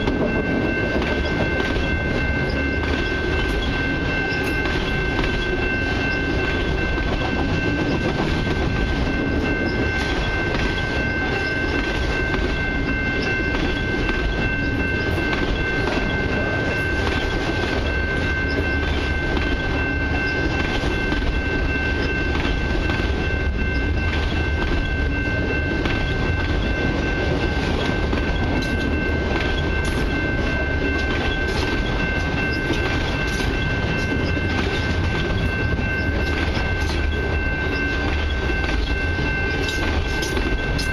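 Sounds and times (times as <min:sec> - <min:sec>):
high ringing tone: 0:00.0 - 0:40.9
train wheels rumbling on rails: 0:00.0 - 0:40.9.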